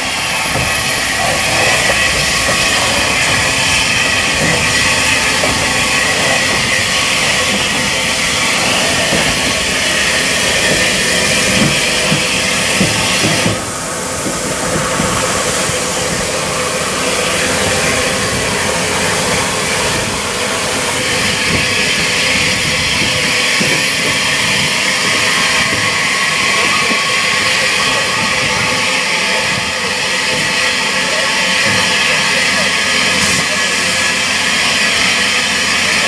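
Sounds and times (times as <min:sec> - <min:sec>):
steam hissing from locomotive: 0:00.0 - 0:36.0.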